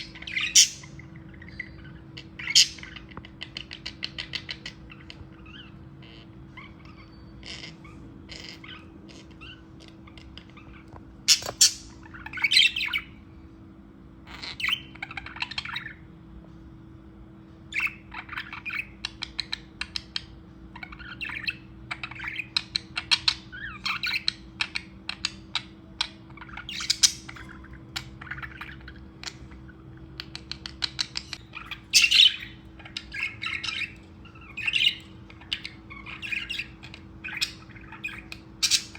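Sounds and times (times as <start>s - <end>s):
budgerigars chirping and squawking: 0.0s - 13.4s, 14.2s - 16.2s, 17.6s - 38.9s
steady low hum: 0.0s - 38.9s.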